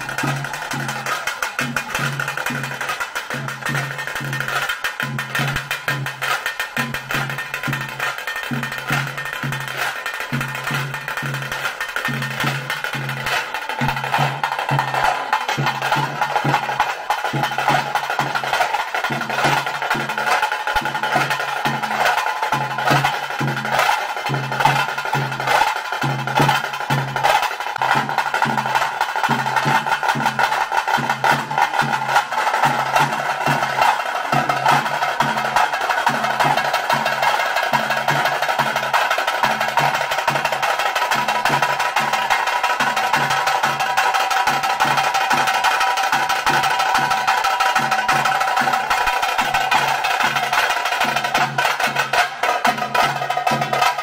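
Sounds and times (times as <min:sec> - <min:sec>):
deep drum steady pulse: 0:00.0 - 0:54.0
drums played fast with sticks: 0:00.0 - 0:54.0.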